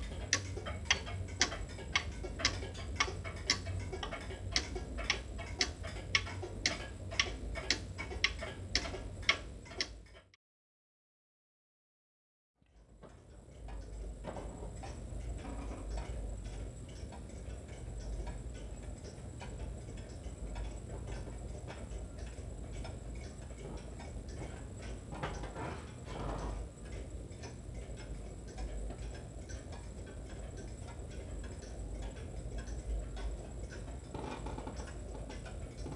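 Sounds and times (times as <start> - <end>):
low steady hum: 0.0 - 10.3, 12.6 - 35.9
mechanical clocks ticking: 0.0 - 10.3, 12.8 - 35.9.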